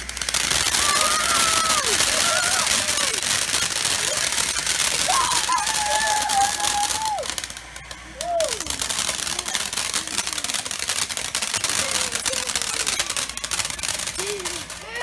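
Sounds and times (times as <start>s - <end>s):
firework crackling: 0.0s - 15.0s.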